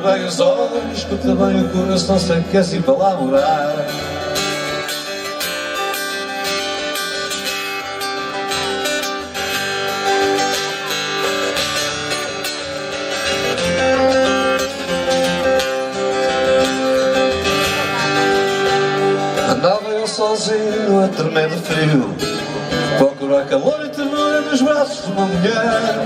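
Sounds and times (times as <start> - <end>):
acoustic guitars strumming: 0.0 - 26.0.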